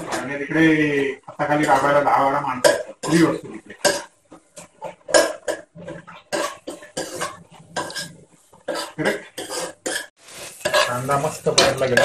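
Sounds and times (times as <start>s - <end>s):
utensil scraping frying onions: 0.0s - 12.0s.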